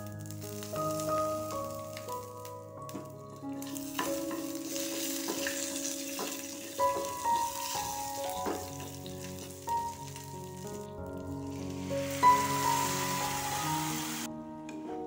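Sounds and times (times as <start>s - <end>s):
spices sizzling in hot oil: 0.0s - 14.3s.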